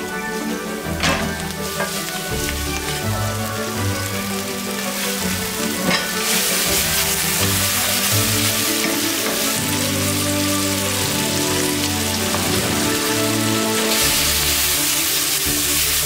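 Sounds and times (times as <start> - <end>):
onion sizzling in hot oil: 0.3 - 16.0.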